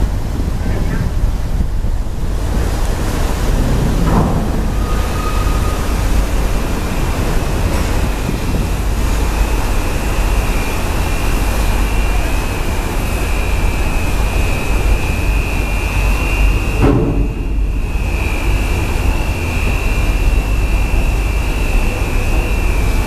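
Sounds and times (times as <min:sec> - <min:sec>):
ferry rumble and rushing: 0:00.0 - 0:23.0
high steady whine: 0:00.0 - 0:23.0.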